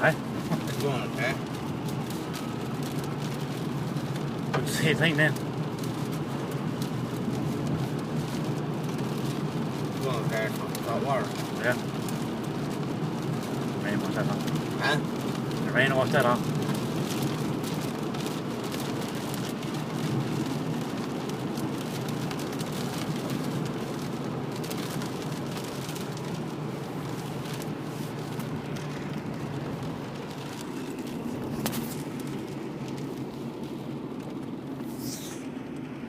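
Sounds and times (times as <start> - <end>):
rain: 0.0 - 36.0.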